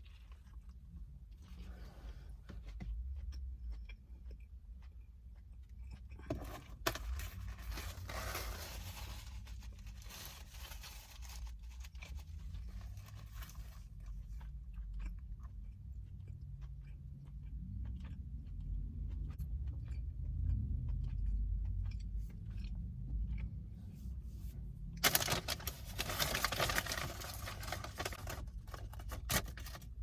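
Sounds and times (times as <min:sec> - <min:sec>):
person chewing sandwich: 0:00.0 - 0:30.0.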